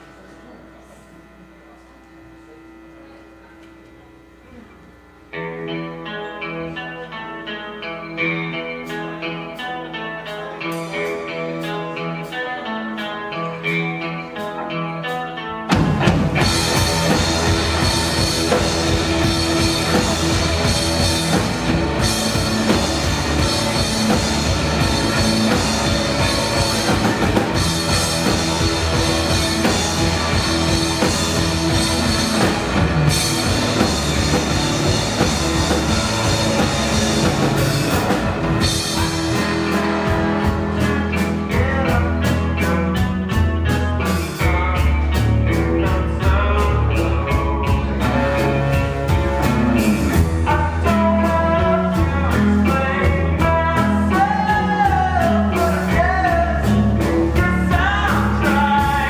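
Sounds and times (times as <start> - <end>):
live rock band playing: 5.3 - 59.0.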